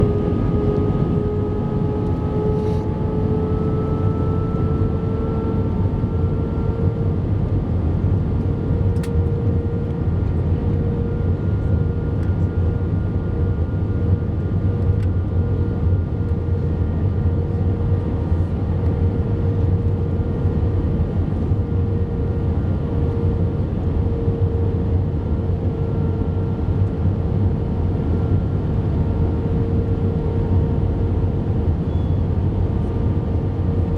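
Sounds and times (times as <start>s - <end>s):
jet engines rumbling and whining: 0.0s - 33.9s.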